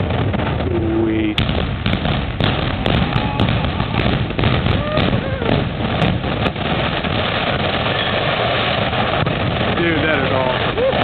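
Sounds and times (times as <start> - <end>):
building collapsing rumble: 0.0 - 11.0
sharp cracks: 0.0 - 11.0.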